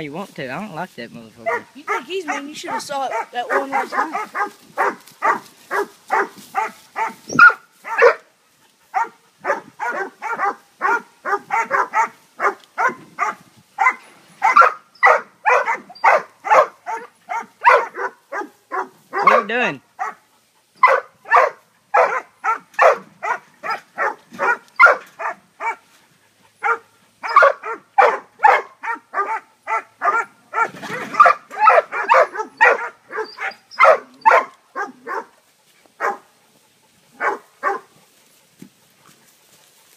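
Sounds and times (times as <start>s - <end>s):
dogs barking: 1.4s - 8.3s, 8.9s - 25.9s, 26.6s - 35.4s, 36.0s - 36.3s, 37.1s - 38.0s.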